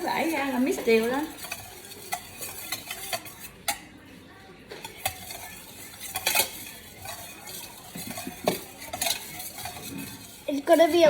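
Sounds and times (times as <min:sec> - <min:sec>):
utensil scraping a bowl: 0:00.0 - 0:04.0, 0:04.7 - 0:11.0.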